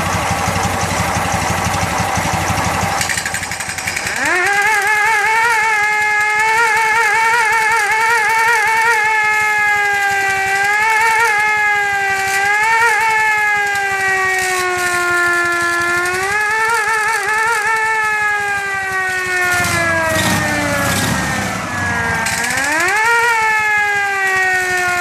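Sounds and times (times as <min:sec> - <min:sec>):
motorcycle siren wailing: 0:00.0 - 0:25.0.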